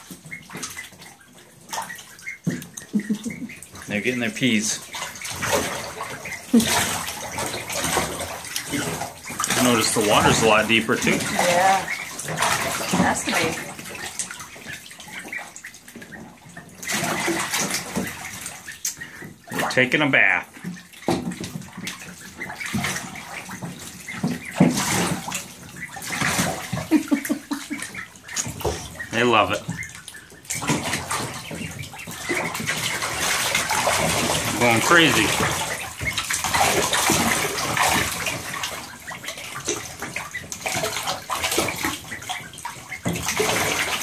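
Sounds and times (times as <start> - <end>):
ducklings splashing in water: 0.0 - 44.0.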